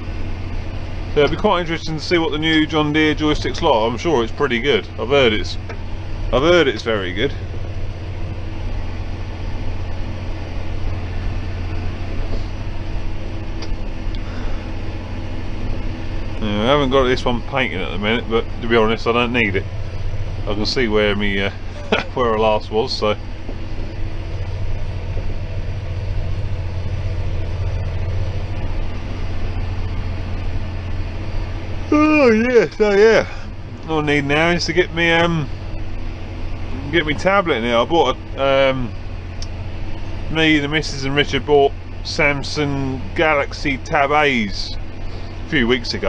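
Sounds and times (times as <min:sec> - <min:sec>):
tractor diesel engine drone: 0:00.0 - 0:46.0.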